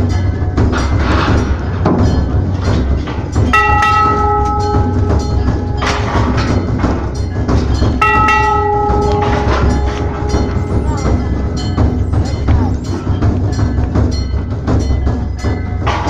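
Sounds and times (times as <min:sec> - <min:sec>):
metal bell ringing: 0:00.0 - 0:16.0
steady low rumble: 0:00.0 - 0:16.0.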